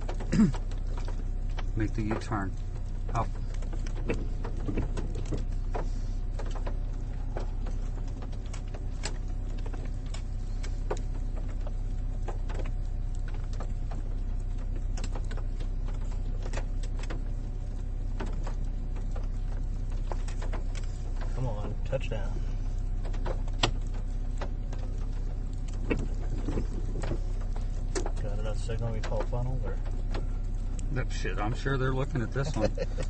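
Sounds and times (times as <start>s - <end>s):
car engine hum inside cabin: 0.0s - 33.0s.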